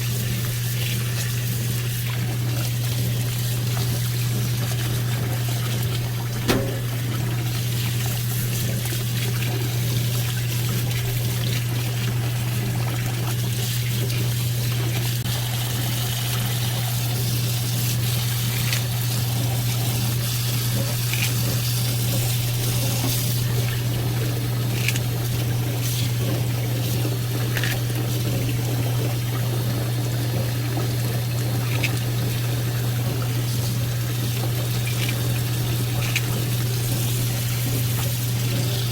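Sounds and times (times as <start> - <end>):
water running from tap into sink: 0.0 - 38.9.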